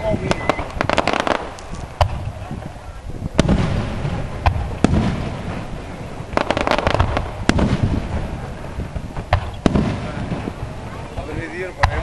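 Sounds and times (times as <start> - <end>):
crackling firework pops: 0.1 - 12.0
firework shells bursting with bangs: 0.1 - 12.0.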